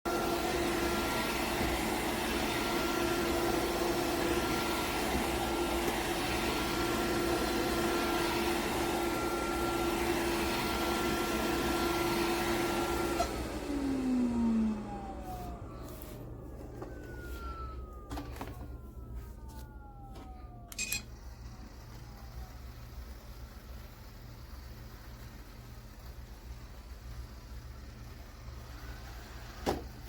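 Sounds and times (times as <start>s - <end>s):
robot vacuum motor hum: 0.1s - 18.8s, 20.7s - 30.0s.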